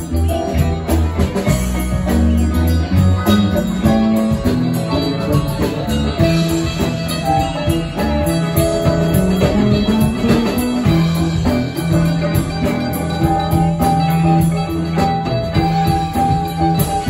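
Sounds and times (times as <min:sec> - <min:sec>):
drum kit with cymbals: 0:00.0 - 0:17.0
electric bass: 0:00.0 - 0:17.0
electric guitar: 0:00.0 - 0:17.0
mandolin: 0:00.0 - 0:17.0.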